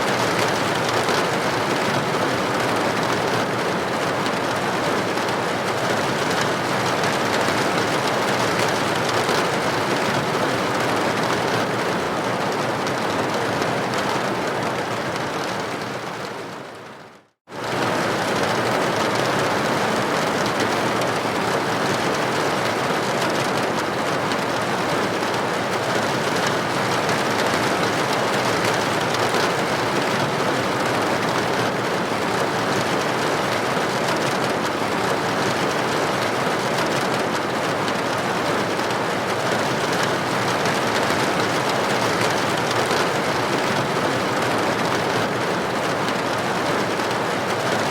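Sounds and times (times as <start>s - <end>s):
rain hissing against window: 0.0s - 47.9s.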